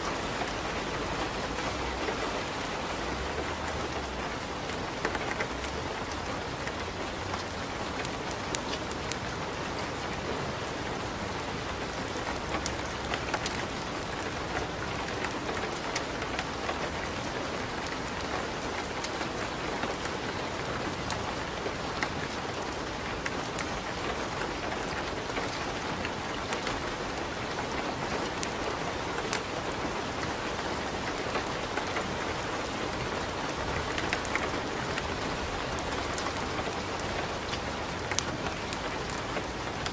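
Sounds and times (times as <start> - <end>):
fireplace fire crackling: 0.0 - 39.9
steady rain: 0.0 - 39.9.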